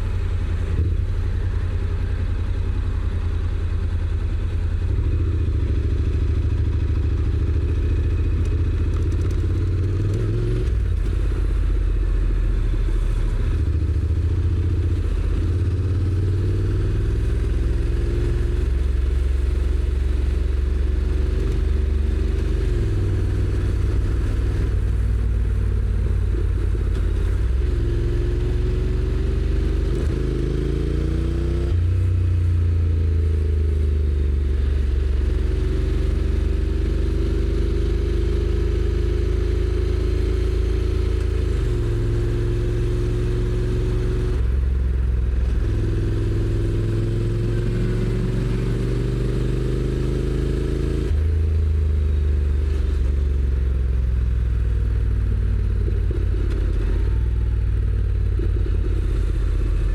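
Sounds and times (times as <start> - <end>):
motorcycle engine revving: 4.8 - 51.4, 52.0 - 59.9.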